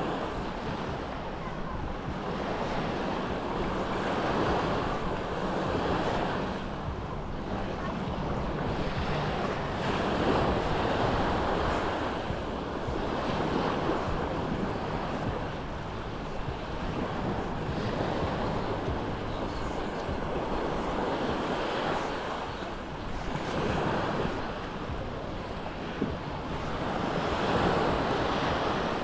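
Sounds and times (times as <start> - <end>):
sea waves washing onto shore: 0.0 - 29.0
wind noise on microphone: 0.0 - 29.0.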